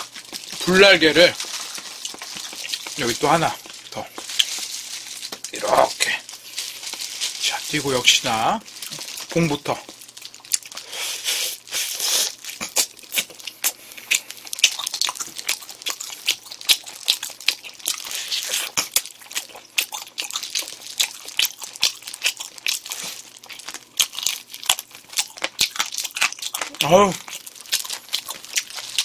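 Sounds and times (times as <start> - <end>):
wet chewing and mouth smacks: 0.0 - 7.2, 8.8 - 29.0
plastic gloves crinkling: 0.0 - 29.0.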